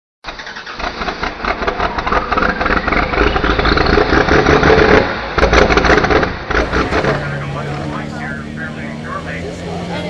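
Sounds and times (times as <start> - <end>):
loud engine running: 0.6 - 10.0.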